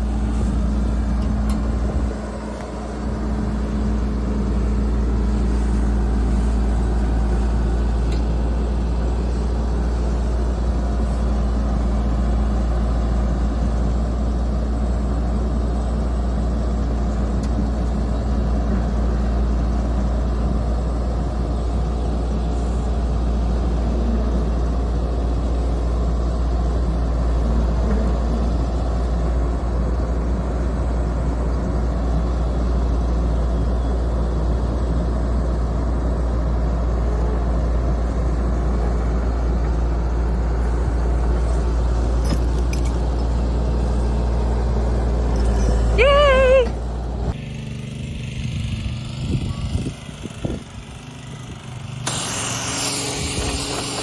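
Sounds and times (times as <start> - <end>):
excavator diesel engine humming: 0.0 - 54.0.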